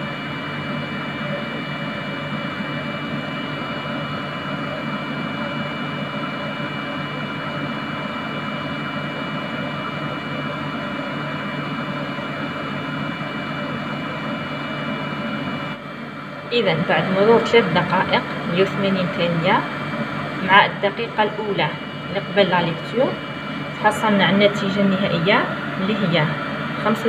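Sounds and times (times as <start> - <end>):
machine hum and whir: 0.0 - 27.0.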